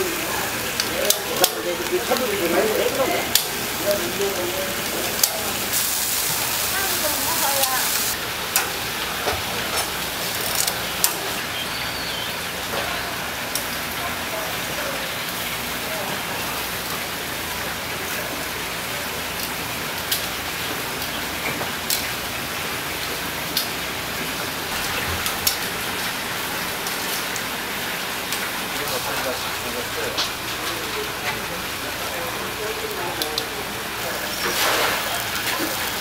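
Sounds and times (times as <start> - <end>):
fish sizzling on a grill: 0.0 - 36.0.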